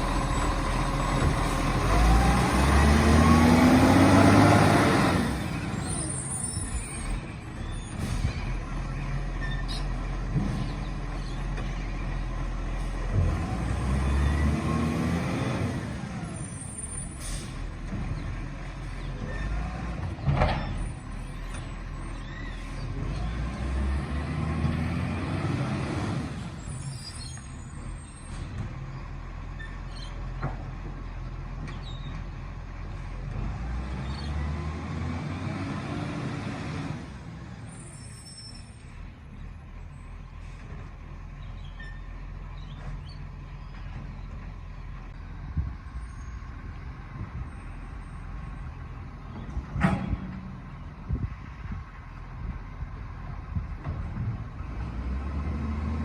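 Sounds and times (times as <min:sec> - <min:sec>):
diesel engine idling and revving: 0:00.0 - 0:56.0.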